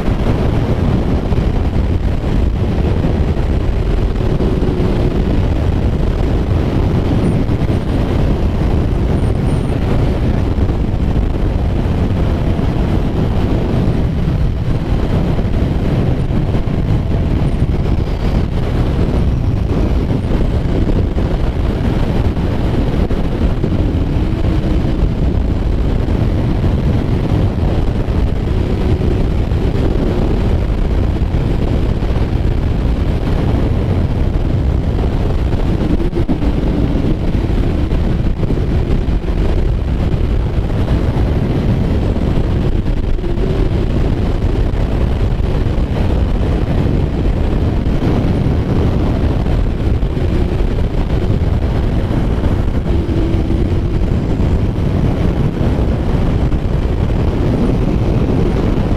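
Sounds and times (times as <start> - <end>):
motorcycle engine running: 0.0 - 58.9
wind rushing over microphone: 0.0 - 58.9.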